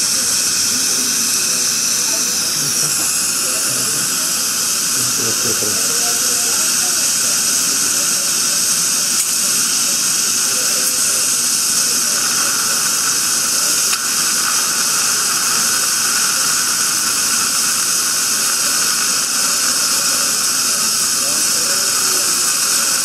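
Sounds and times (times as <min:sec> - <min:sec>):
dental equipment hissing: 0:00.0 - 0:23.0.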